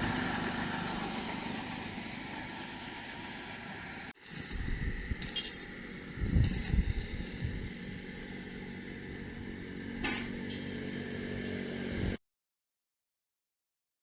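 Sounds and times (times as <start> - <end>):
motor running: 0.0 - 12.2.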